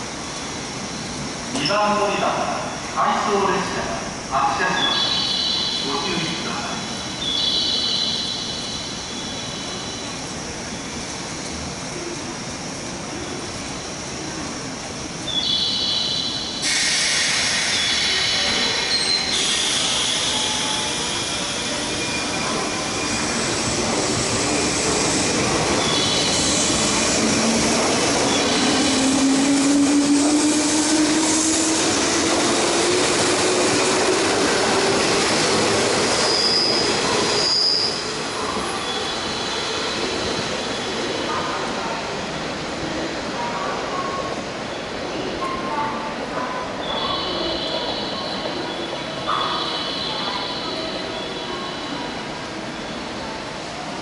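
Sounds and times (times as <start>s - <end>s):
rail noise: 0.0s - 54.0s.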